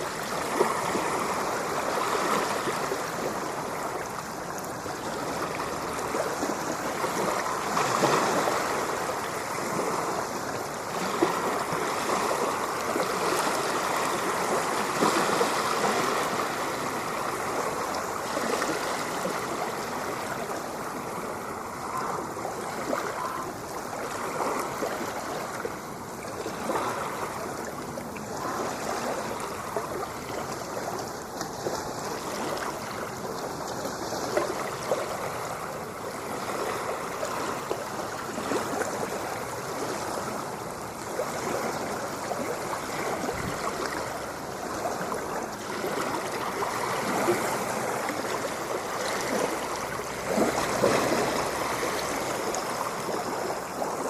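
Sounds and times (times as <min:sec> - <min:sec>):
ocean water washing and splashing: 0:00.0 - 0:54.0.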